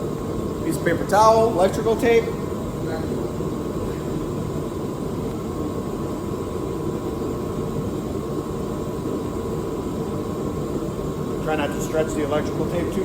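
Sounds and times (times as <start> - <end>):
fan blower rushing hum: 0.0 - 13.0.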